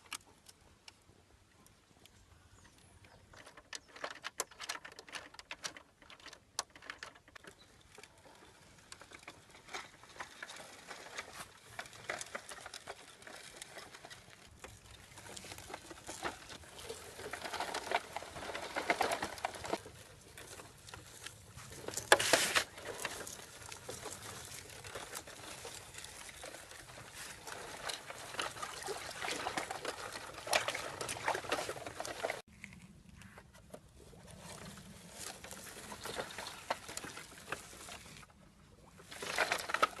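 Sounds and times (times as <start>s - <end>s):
small hard pieces pattering: 3.3s - 32.5s, 34.7s - 38.2s, 39.0s - 40.0s.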